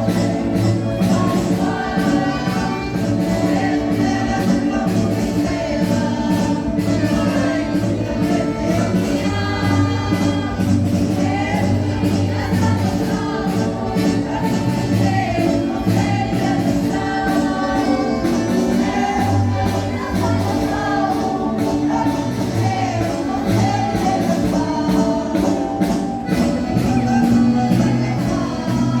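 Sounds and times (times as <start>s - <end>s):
band playing marching beat: 0.0s - 29.0s
group of voices singing in chorus: 0.0s - 29.0s.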